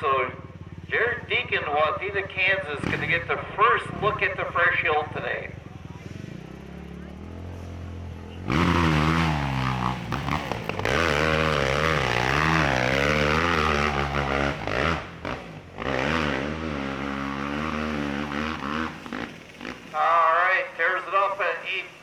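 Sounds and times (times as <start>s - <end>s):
quad engine at full throttle: 0.0s - 22.0s.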